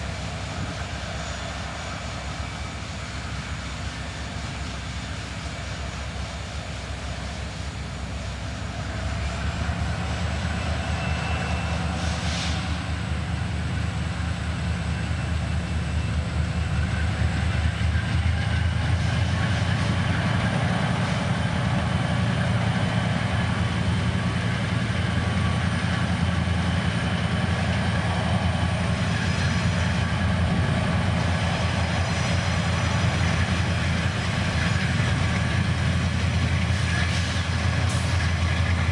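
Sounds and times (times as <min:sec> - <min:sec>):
diesel locomotive engine drone: 0:00.0 - 0:38.9.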